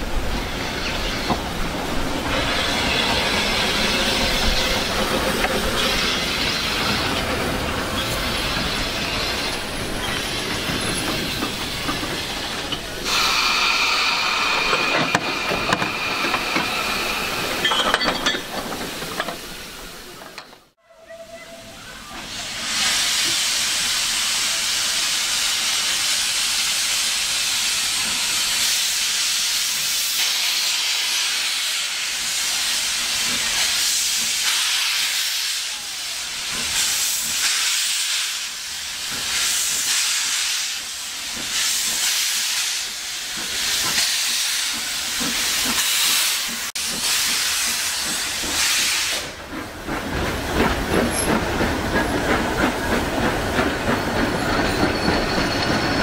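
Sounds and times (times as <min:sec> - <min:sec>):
coaches rumbling and clicking on rails: 0:00.0 - 0:56.0
steam locomotive hissing: 0:00.0 - 0:56.0.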